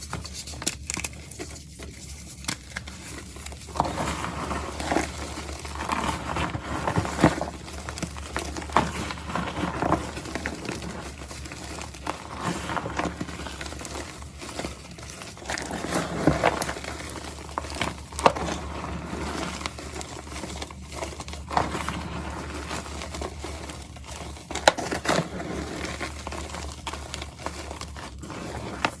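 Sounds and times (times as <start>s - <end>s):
powder block crushed by hand: 2.4s - 29.0s.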